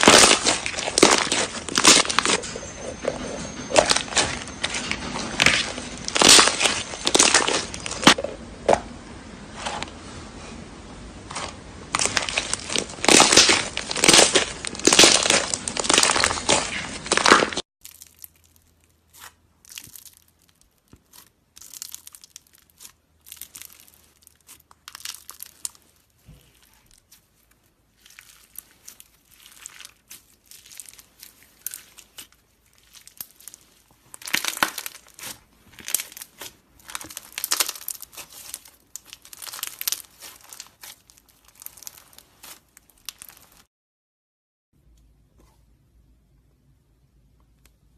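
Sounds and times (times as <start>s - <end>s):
slime crackling and crunching: 0.0s - 8.8s, 11.2s - 43.7s.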